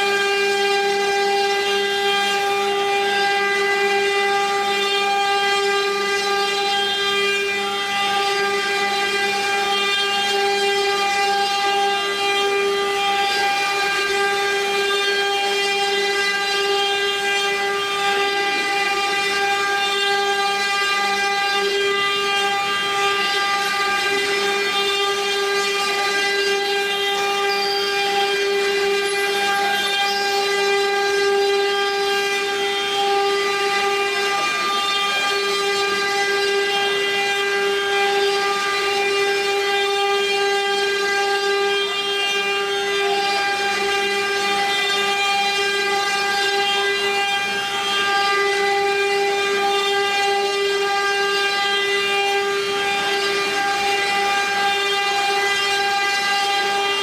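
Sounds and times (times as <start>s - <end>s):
machine whine: 0.0s - 57.0s.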